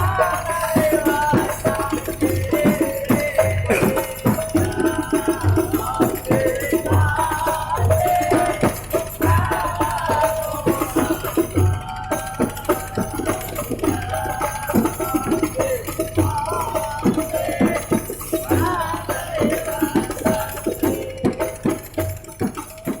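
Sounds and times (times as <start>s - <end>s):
frame drums: 0.0s - 23.0s
voices singing: 0.0s - 23.0s.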